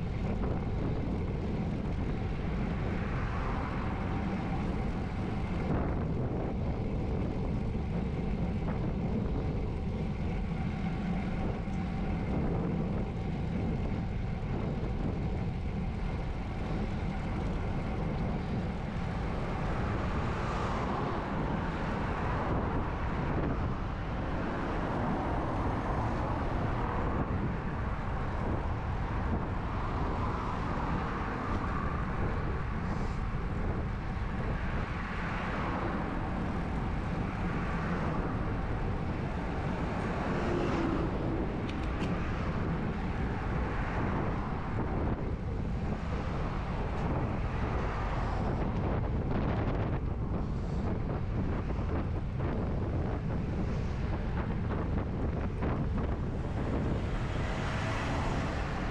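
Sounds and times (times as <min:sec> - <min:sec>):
rushing wind noise: 0:00.0 - 0:58.9.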